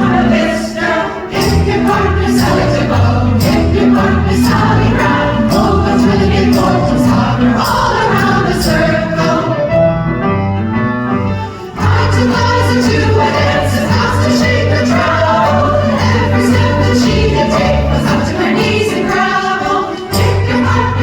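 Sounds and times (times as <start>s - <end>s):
women's chorus singing: 0.0s - 9.7s, 11.7s - 21.0s
instrumental accompaniment: 0.0s - 21.0s.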